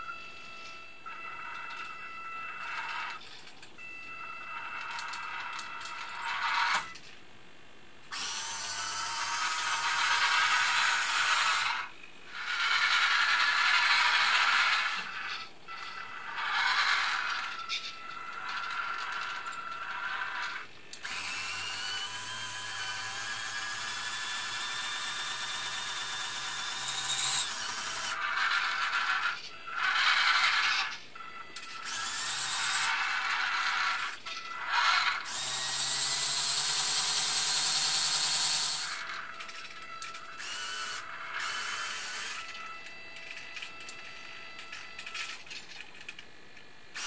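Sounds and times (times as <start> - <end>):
electric motors and gears whirring: 0.0 - 47.0.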